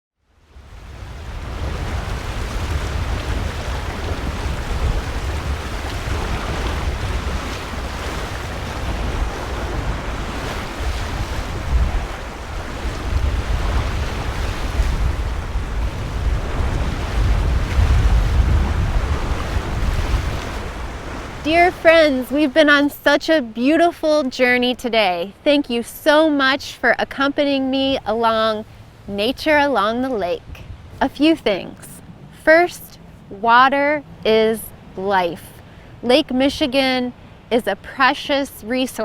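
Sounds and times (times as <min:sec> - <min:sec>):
waves washing against shore: 0:00.3 - 0:39.0
wind buffeting microphone: 0:00.5 - 0:24.3, 0:27.1 - 0:37.5.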